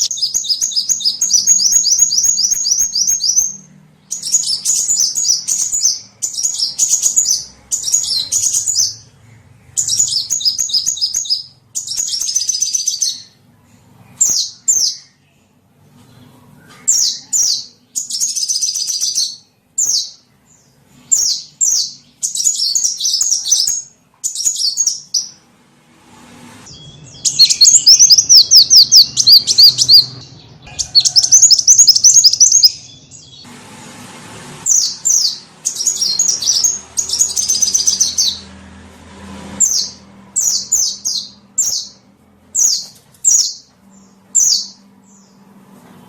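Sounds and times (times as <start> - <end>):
small bird chirping trills: 0.0 - 13.4, 14.1 - 25.4, 26.7 - 33.5, 34.7 - 38.5, 39.6 - 45.4.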